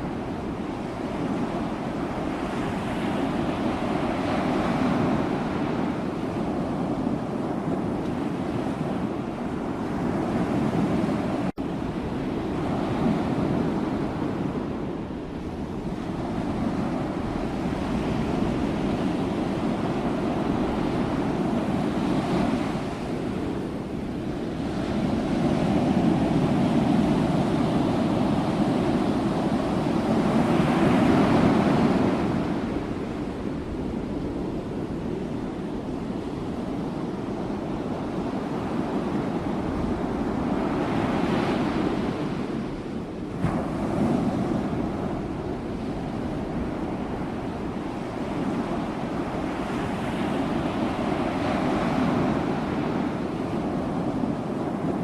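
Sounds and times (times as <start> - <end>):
sea waves surf: 0.0 - 55.0.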